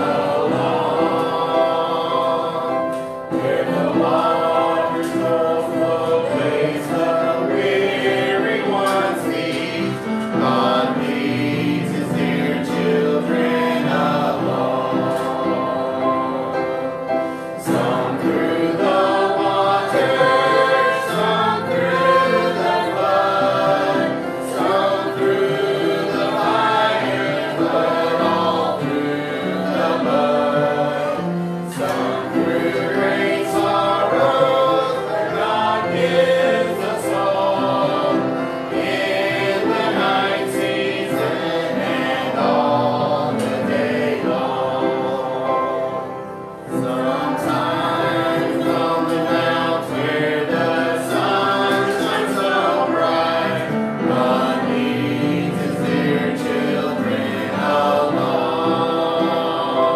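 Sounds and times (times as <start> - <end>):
congregation singing a hymn: 0.0 - 59.9
piano accompaniment: 0.0 - 59.9.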